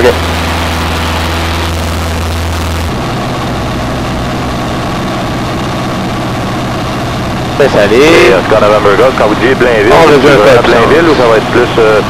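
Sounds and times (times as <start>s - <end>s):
aircraft engine and propeller droning: 0.0s - 12.0s.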